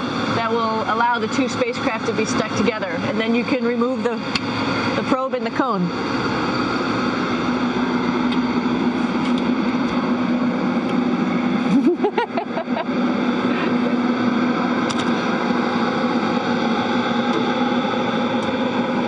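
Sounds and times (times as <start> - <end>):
constant low hum: 0.0 - 19.0
ventilation fans whirring: 0.0 - 19.0.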